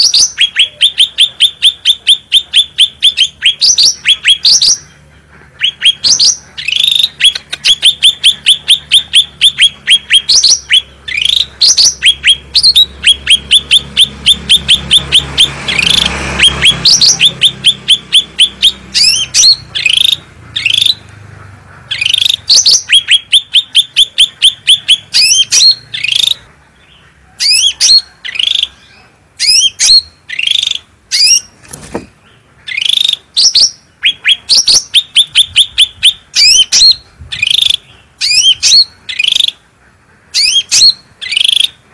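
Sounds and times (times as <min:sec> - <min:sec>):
songbird singing sharp chirps: 0:00.0 - 0:21.2, 0:21.9 - 0:39.6, 0:40.4 - 0:41.8.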